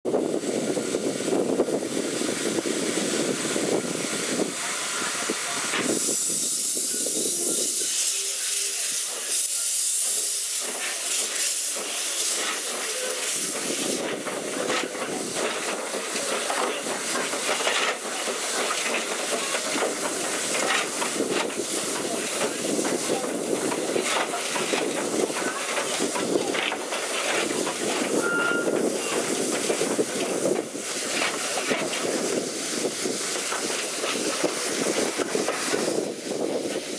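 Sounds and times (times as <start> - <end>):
loud hiss of steam: 0.1 - 36.9
train rumbling and knocking: 0.1 - 36.9.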